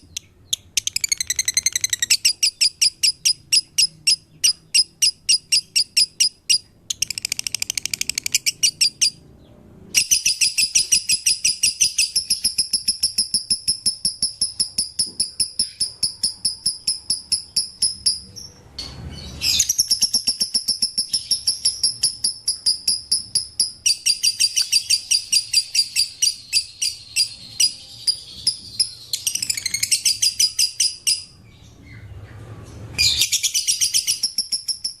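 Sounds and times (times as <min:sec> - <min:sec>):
bird high-pitched chirps: 0:00.0 - 0:09.2, 0:10.0 - 0:32.1, 0:33.0 - 0:35.0.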